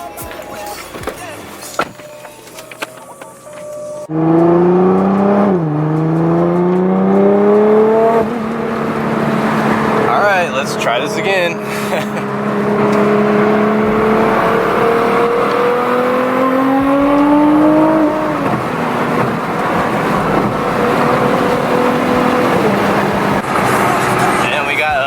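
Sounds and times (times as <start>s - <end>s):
car engine accelerating: 2.5s - 25.0s.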